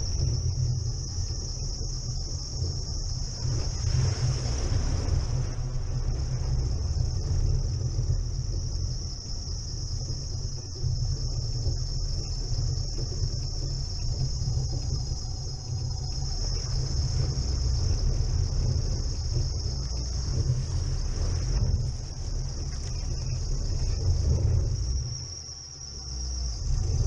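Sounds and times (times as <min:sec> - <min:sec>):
car engine rumble: 0:00.0 - 0:27.0
high-pitched whine: 0:00.0 - 0:27.0.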